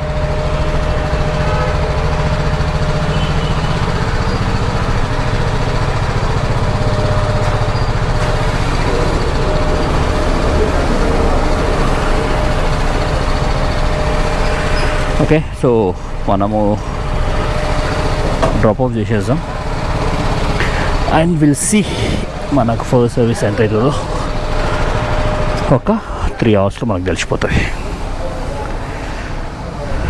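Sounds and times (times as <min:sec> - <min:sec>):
motorcycle engine running: 0:00.0 - 0:21.5, 0:22.2 - 0:25.8.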